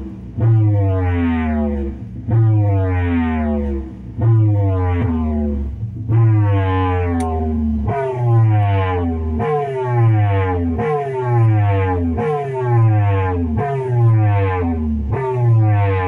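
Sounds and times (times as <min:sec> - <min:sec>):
heavy bass: 0:00.0 - 0:16.0
siren-like electronic tone: 0:00.0 - 0:16.0.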